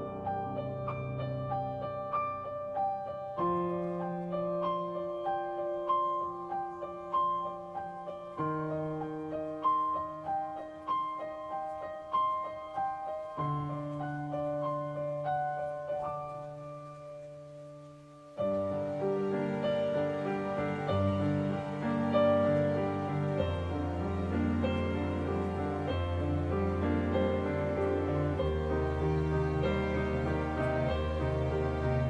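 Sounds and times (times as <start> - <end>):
gentle solo piano music: 0.0 - 32.0.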